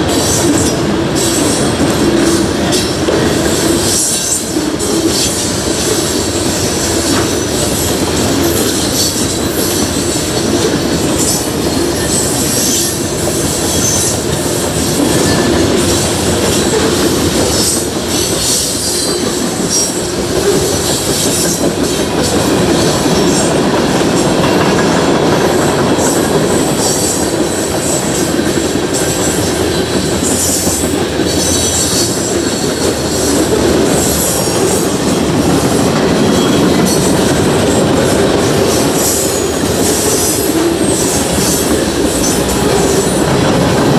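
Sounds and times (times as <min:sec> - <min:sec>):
train wheels clacking over rails: 0:00.0 - 0:43.9.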